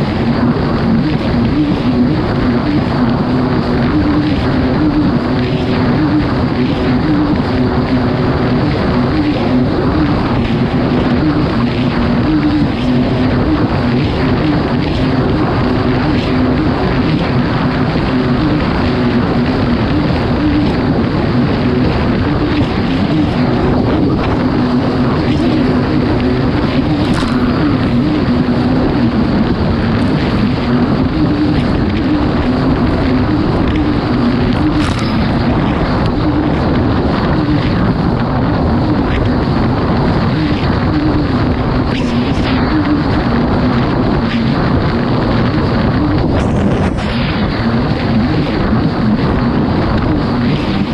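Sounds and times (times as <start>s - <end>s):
jet ski engine running hard: 0.0s - 50.9s
rushing noise: 0.0s - 50.9s.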